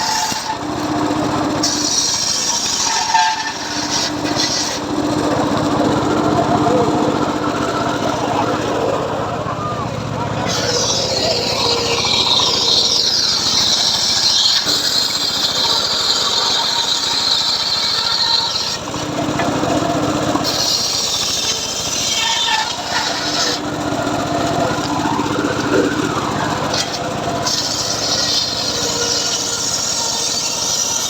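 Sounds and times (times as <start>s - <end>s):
circular saw cutting wood: 0.0s - 31.0s.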